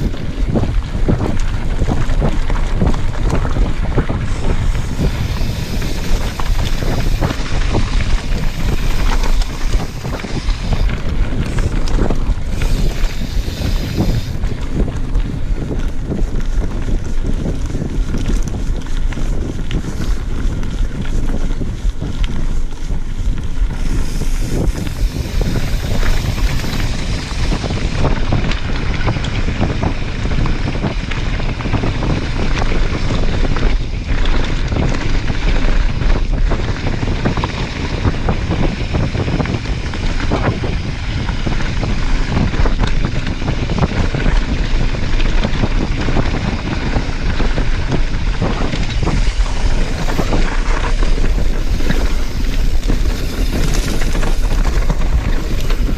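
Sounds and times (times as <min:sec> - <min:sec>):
bike tyres clattering on ground: 0:00.0 - 0:55.9
low rumble: 0:00.0 - 0:55.9
wind over microphone: 0:00.0 - 0:55.9.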